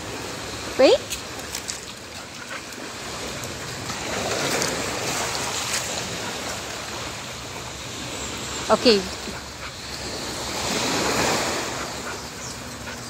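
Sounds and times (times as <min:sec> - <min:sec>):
small waves lapping at shore: 0:00.0 - 0:13.0.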